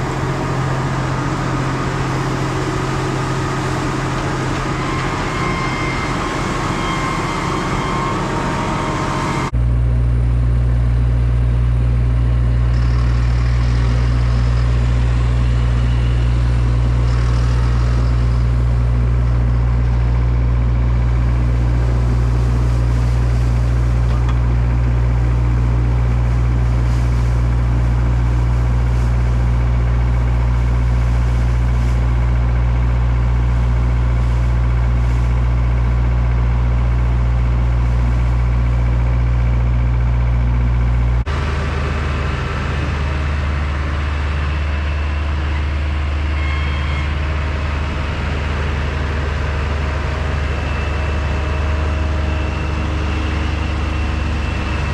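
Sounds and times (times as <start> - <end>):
engine drone: 0.0 - 54.9
heavy diesel engine running: 0.0 - 54.9.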